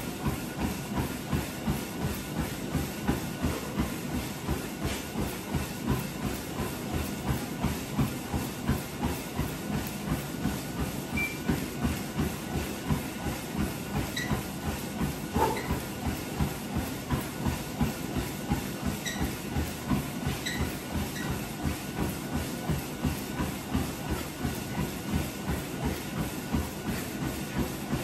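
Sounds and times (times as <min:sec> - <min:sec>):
footfalls on treadmill: 0:00.0 - 0:28.0
treadmill motor and belt hum: 0:00.0 - 0:28.0.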